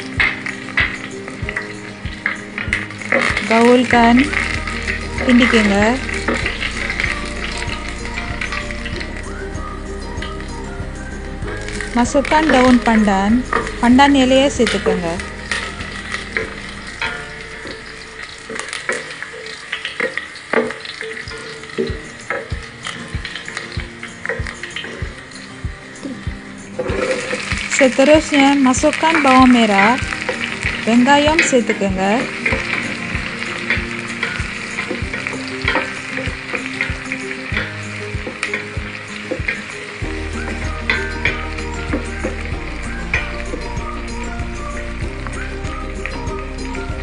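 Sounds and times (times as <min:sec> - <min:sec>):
spices sizzling in oil: 0:00.0 - 0:47.0.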